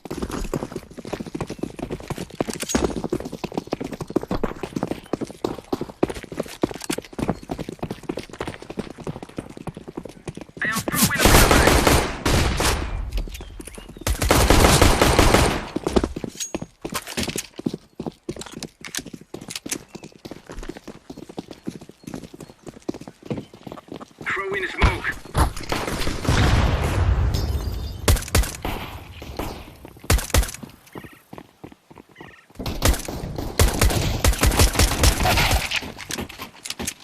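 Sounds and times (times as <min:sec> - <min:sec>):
horse hooves clip-clopping: 0:00.0 - 0:11.0, 0:13.0 - 0:26.2, 0:27.4 - 0:37.0.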